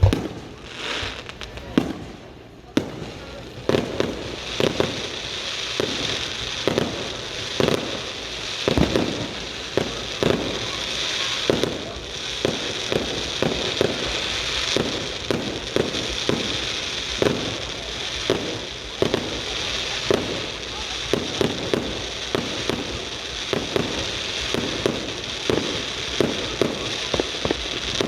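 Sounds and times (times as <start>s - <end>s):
crackling hiss: 0.0s - 28.0s
fireworks bangs: 0.0s - 28.0s.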